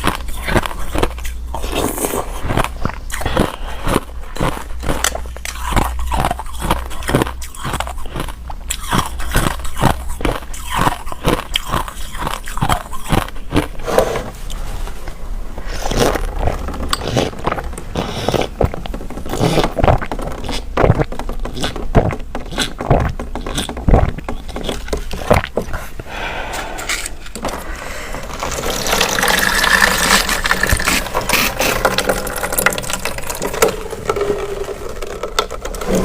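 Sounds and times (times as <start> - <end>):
ice crunching between teeth: 0.0 - 13.8, 15.6 - 25.9, 26.9 - 36.0.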